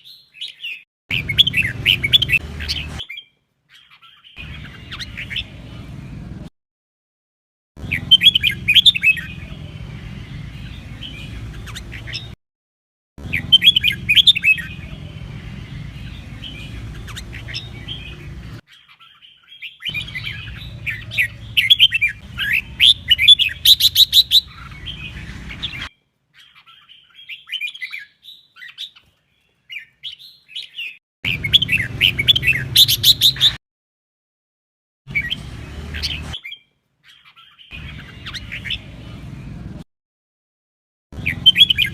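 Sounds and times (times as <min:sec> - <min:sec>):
bulbul chirping song: 0:00.0 - 0:06.0, 0:07.8 - 0:12.4, 0:13.2 - 0:29.0, 0:29.8 - 0:33.6, 0:35.1 - 0:39.2, 0:41.2 - 0:41.9.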